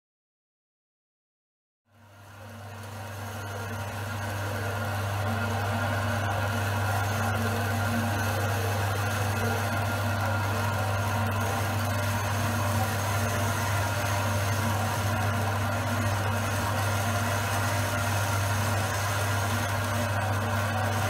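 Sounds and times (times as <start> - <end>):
bandsaw motor hum: 2.2 - 21.0.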